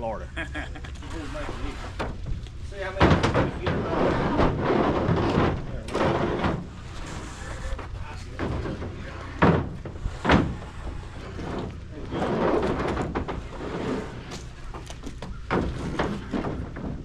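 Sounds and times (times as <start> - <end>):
boards sliding and scraping: 0.9 - 17.0
heavy thunks of wooden boards: 2.0 - 7.2, 7.8 - 17.0.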